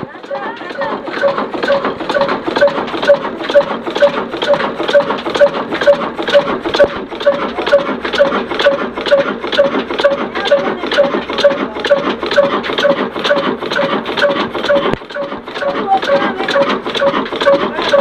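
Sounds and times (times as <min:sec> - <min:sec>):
diesel engine rhythmic clatter: 0:00.0 - 0:18.0.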